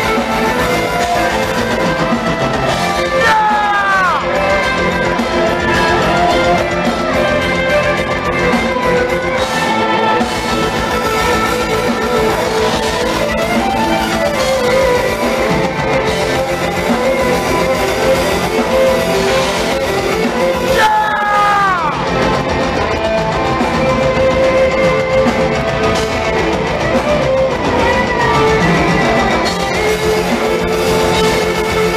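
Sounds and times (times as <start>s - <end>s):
amplified violin bowed: 0.0s - 31.9s
metal band playing live: 0.0s - 31.9s.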